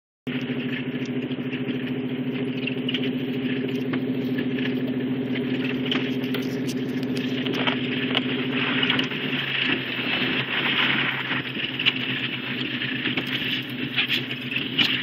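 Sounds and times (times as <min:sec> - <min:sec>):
truck engine running: 0:00.3 - 0:15.0.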